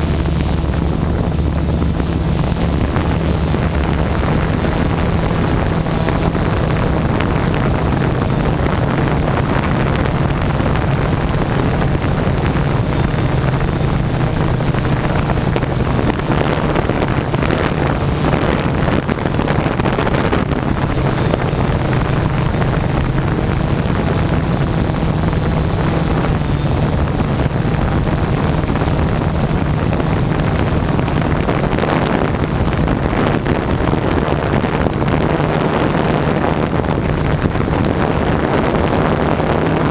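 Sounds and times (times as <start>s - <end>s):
drone propellers humming: 0.0s - 39.9s
wind noise on microphone: 0.0s - 39.9s.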